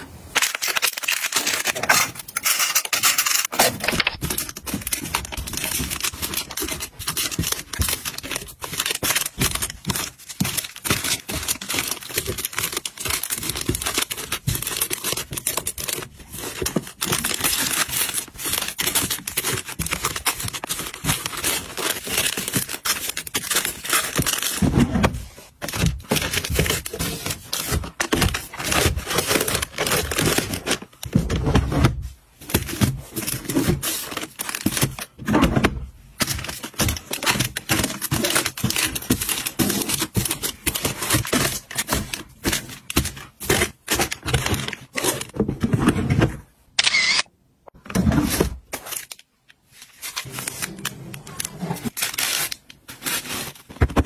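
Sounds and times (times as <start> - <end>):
plastic packs crinkling: 0.3 - 31.8, 32.4 - 35.4, 36.1 - 46.0, 48.2 - 54.0.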